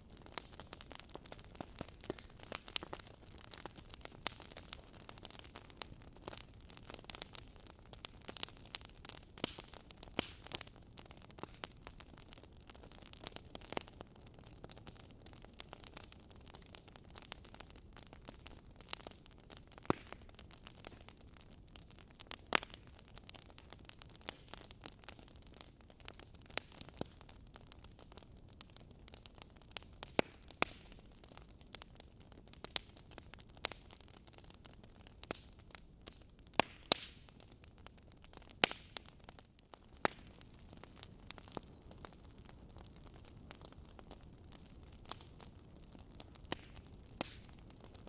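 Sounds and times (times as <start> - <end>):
burning logs hissing: 0.0 - 48.0
wood fire crackling: 0.0 - 48.0.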